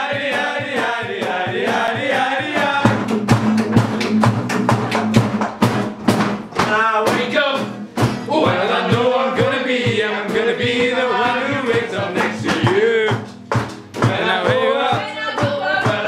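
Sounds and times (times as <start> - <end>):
people singing along: 0.0 - 5.2, 6.6 - 13.2, 14.0 - 16.0
acoustic guitars strumming: 0.0 - 16.0.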